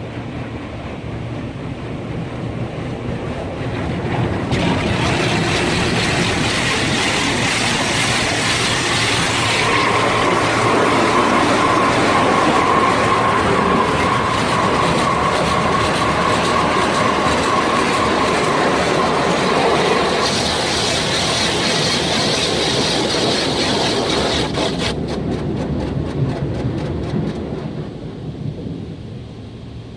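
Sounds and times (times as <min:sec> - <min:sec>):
steady whine: 0:00.0 - 0:28.8
car wash machinery rumble: 0:00.0 - 0:29.9.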